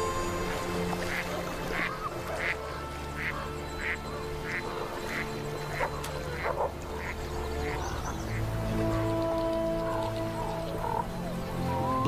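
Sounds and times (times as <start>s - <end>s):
background music with held notes: 0.0s - 12.0s
geese calling: 1.0s - 12.0s.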